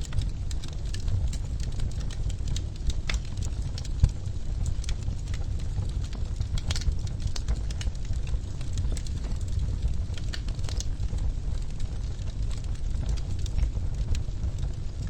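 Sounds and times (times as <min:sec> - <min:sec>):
low rumble of burning logs: 0:00.0 - 0:15.0
wood fire pops and snaps: 0:00.0 - 0:15.0.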